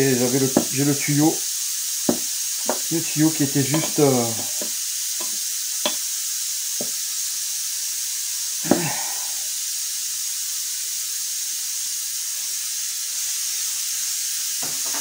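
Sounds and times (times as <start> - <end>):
compressed air hissing from hose: 0.0 - 15.0.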